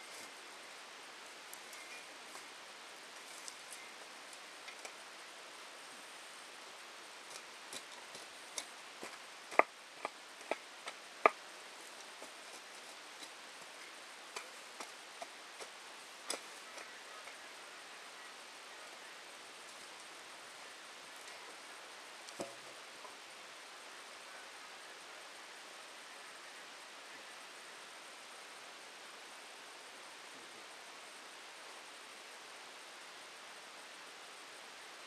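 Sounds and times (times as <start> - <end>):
faint hiss: 0.0 - 35.0.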